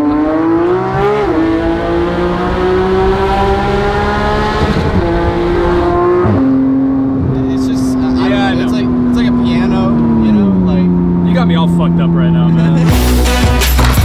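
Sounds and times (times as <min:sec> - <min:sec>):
car engine accelerating with upshifts: 0:00.0 - 0:13.2.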